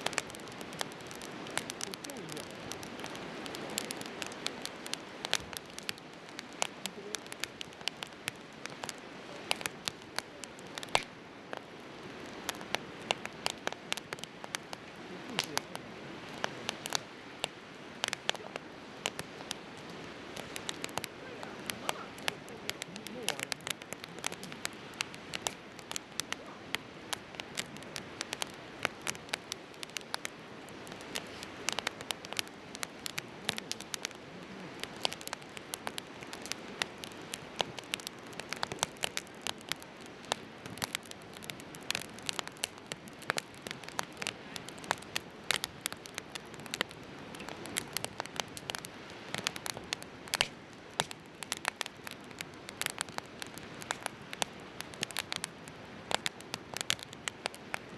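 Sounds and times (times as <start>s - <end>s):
firewood crackling and popping: 0.0s - 57.9s.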